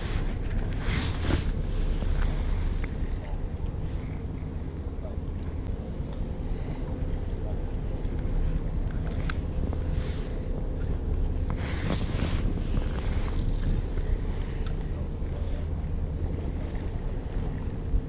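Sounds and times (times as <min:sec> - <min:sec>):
boat engine humming: 0:00.0 - 0:18.0
wind buffeting microphone: 0:00.0 - 0:18.0.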